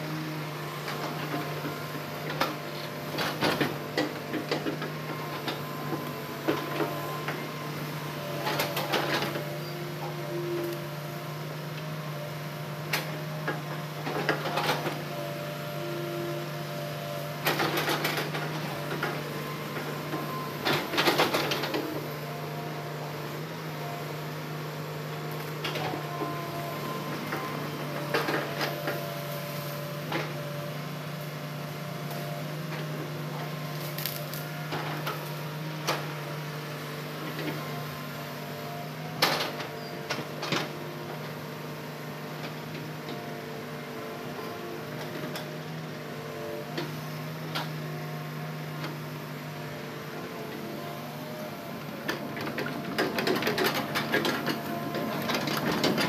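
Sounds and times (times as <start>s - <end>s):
excavator engine humming: 0.0s - 56.0s.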